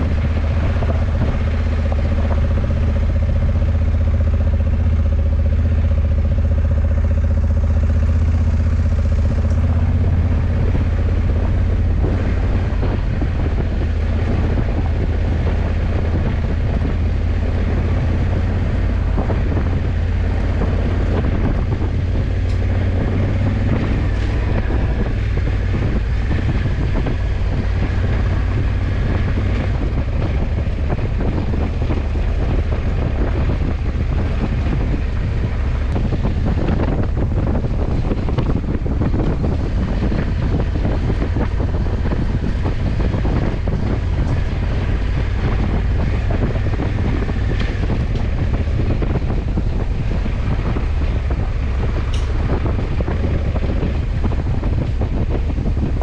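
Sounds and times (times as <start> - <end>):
motorcycle engine drone: 0.0 - 56.0
tyres on road: 0.0 - 56.0
wind rushing over microphone: 0.0 - 56.0.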